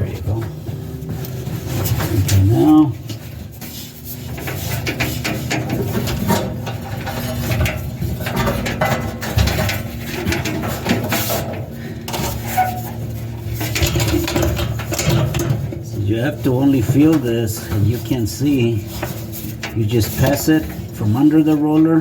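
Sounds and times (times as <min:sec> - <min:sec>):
low steady hum: 0:00.0 - 0:22.0
metal parts clanking: 0:01.2 - 0:22.0.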